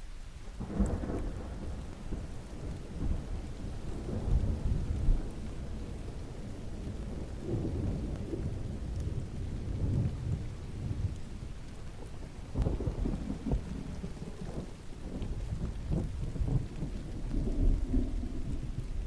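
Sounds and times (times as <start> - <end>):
steady rain: 0.0 - 19.0
thunder rumbling: 0.6 - 19.0.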